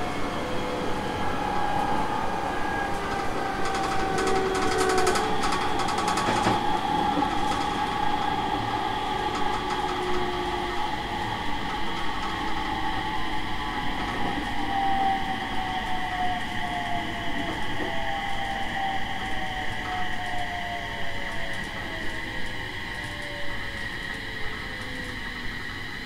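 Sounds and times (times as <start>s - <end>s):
train rolling noise: 0.0s - 26.0s.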